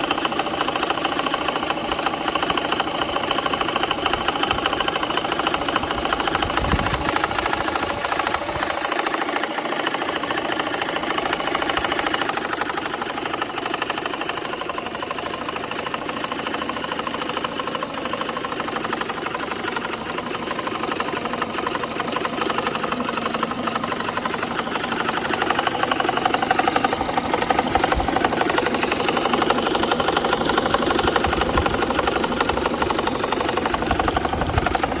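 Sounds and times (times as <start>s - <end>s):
engine ticking knock: 0.0s - 35.0s.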